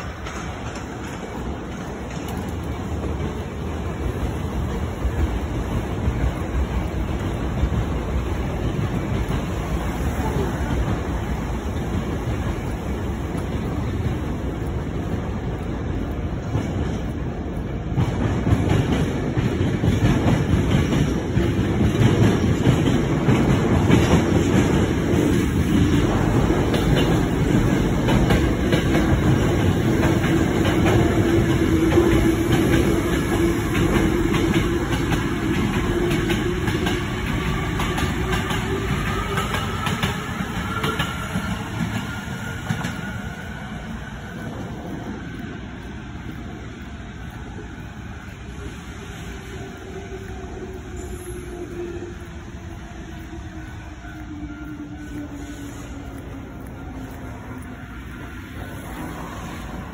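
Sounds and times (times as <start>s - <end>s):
train rumbling and clattering: 0.0s - 59.9s.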